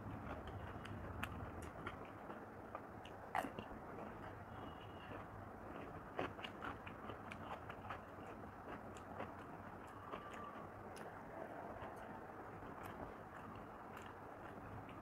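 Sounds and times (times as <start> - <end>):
person chewing with mouth clicks: 0.1 - 15.0.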